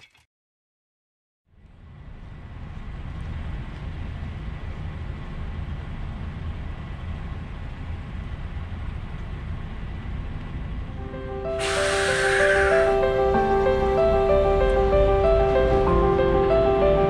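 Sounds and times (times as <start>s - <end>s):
diesel lorry engine idling: 1.7s - 17.0s.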